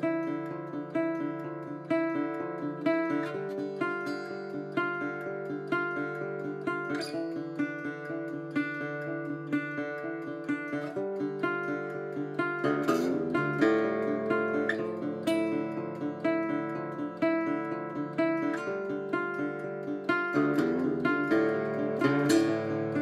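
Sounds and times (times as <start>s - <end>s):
fingerpicked acoustic guitar: 0.0s - 23.0s.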